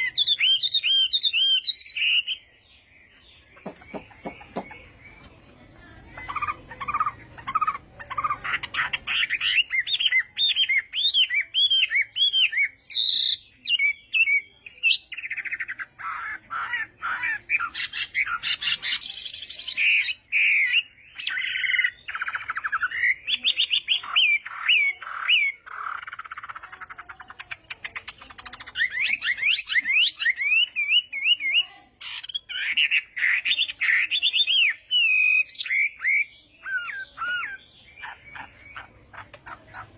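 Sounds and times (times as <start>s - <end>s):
songbird singing whistled phrases: 0.0s - 5.3s, 6.2s - 38.9s.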